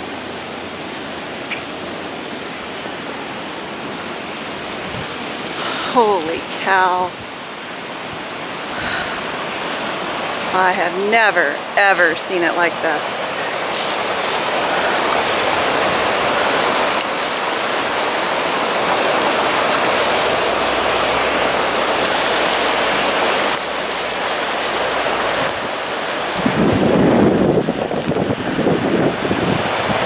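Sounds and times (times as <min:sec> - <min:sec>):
flood water rushing down channel: 0:00.0 - 0:30.0.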